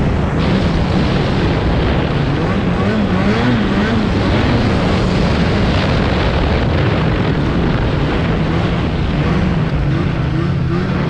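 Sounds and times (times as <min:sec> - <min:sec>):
snowmobile engine running: 0:00.0 - 0:11.0
wind noise on microphone: 0:00.0 - 0:11.0.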